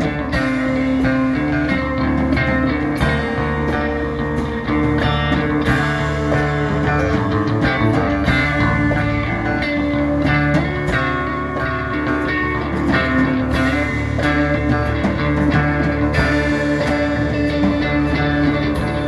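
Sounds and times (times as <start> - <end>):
electric guitar: 0.0 - 19.0
live rock band: 0.0 - 19.0
steady drum beat: 0.0 - 19.0.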